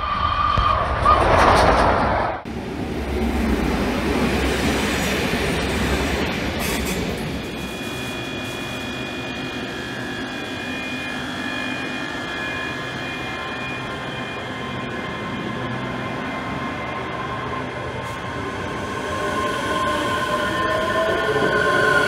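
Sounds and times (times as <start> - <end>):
electric train whine: 2.5 - 22.0.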